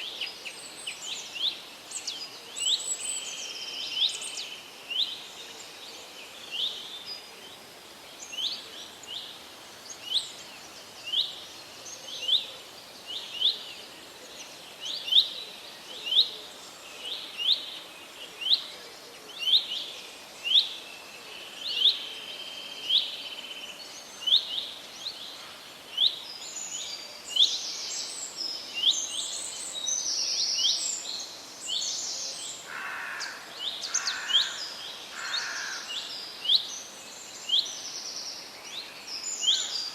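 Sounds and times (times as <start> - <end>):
forest birdsong: 0.0 - 39.9
steady background hiss: 0.0 - 39.9.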